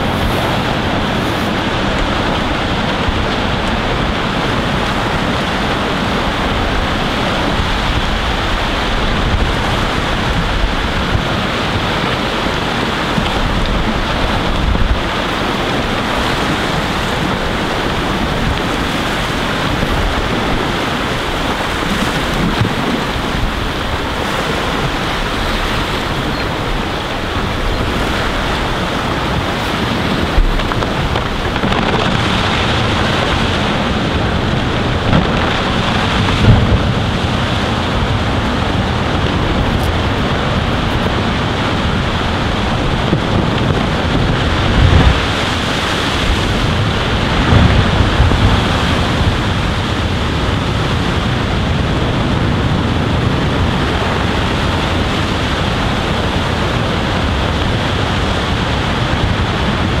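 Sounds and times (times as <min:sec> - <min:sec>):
water washing: 0:00.0 - 0:52.0
wind buffeting microphone: 0:00.0 - 1:00.0.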